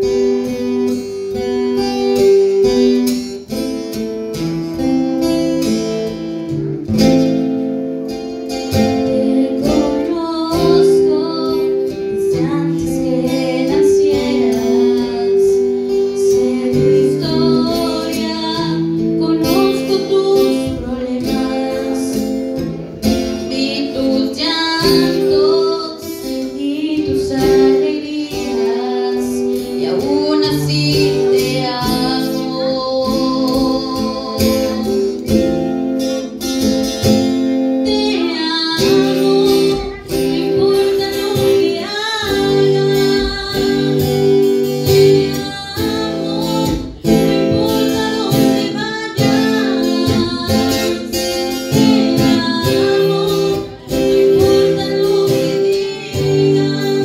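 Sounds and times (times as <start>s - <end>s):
guitar: 0.0s - 57.0s
person singing: 8.1s - 57.0s.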